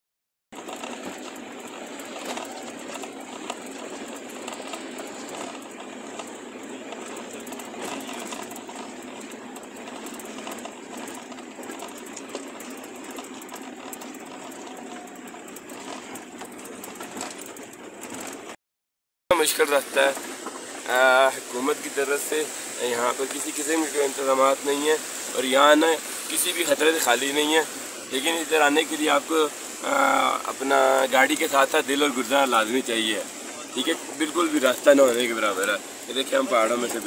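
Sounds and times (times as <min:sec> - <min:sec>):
jeep engine running: 0:00.5 - 0:18.6, 0:19.3 - 0:37.0
vehicle body rattling: 0:00.6 - 0:18.6, 0:19.3 - 0:37.0.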